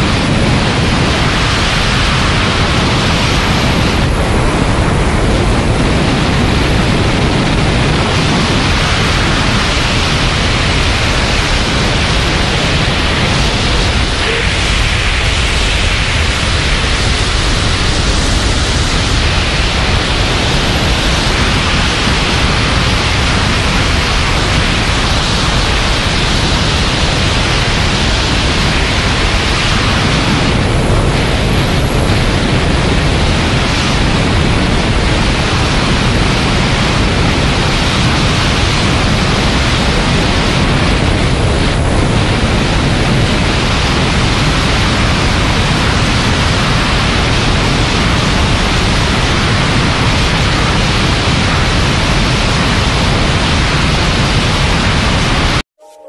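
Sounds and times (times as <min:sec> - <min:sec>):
wind rushing into microphone: 0:00.0 - 0:56.0.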